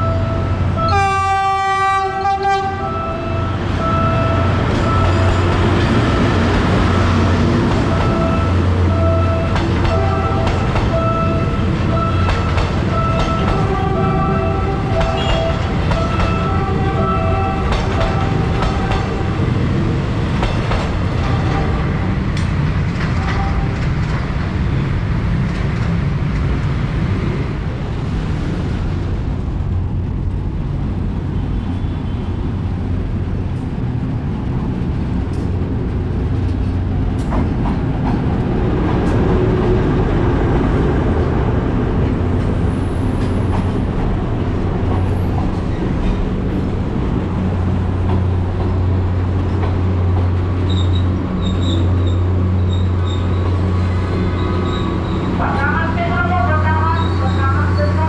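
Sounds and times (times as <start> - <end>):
diesel locomotive engine drone: 0.0 - 58.0
train rolling over jointed track: 3.8 - 58.0.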